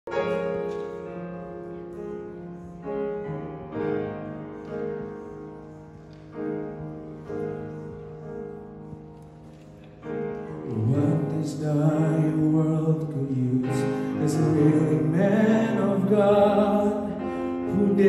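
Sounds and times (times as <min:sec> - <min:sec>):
piano playing slow chords: 0:00.1 - 0:18.0.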